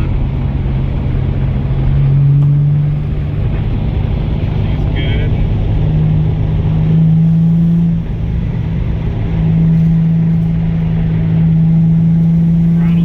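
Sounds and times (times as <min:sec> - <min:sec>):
car exhaust drone from inside cabin: 0:00.0 - 0:13.0.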